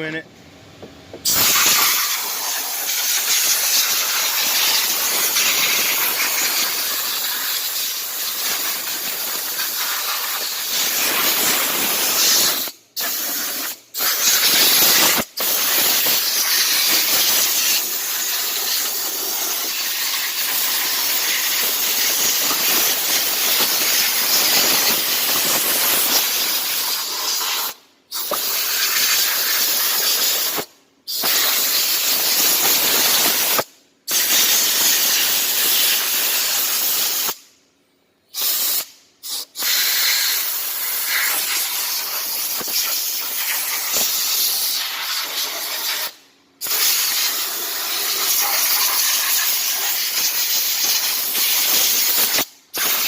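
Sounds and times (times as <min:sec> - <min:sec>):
high-pressure jet hissing: 0:01.2 - 0:37.4, 0:38.4 - 0:53.0.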